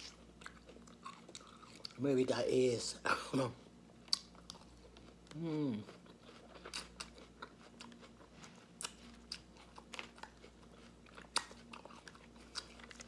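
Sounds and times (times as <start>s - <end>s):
chewing crisp lettuce: 0.0s - 2.0s, 4.0s - 13.0s.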